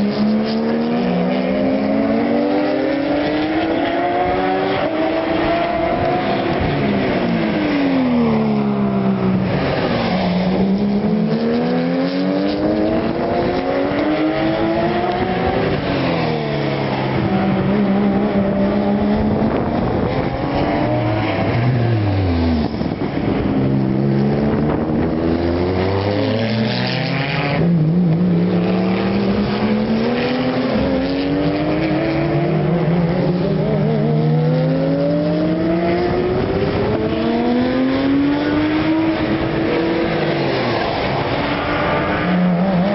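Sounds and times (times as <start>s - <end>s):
race cars passing at full throttle: 0.0s - 42.9s.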